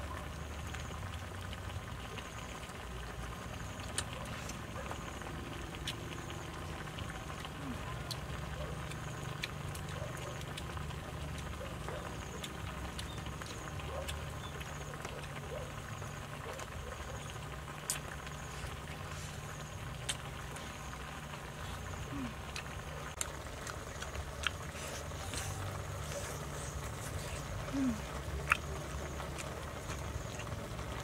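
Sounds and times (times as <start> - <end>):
insects chirping in trills: 2.2 - 31.0.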